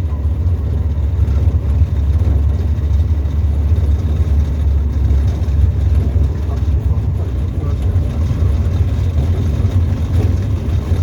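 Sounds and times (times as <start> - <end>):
piston aircraft engine droning: 0.0 - 11.0.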